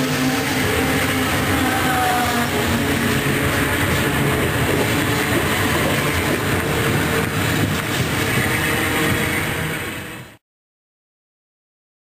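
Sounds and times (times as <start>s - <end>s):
train wheels rushing on rail: 0.0s - 10.4s.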